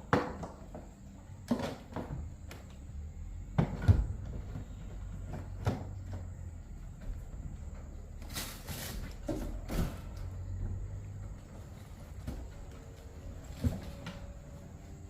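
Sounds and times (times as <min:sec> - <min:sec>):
objects knocking and thumping: 0:00.0 - 0:02.8, 0:03.4 - 0:14.5.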